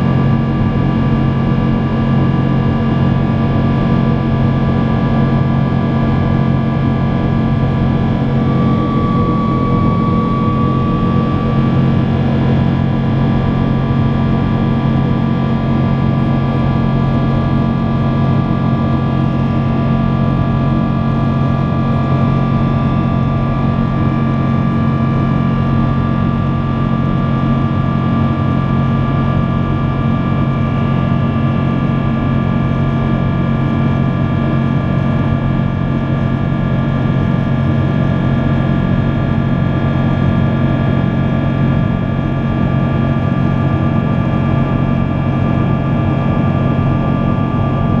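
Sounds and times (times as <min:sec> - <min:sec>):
jet engines droning: 0:00.0 - 0:48.0.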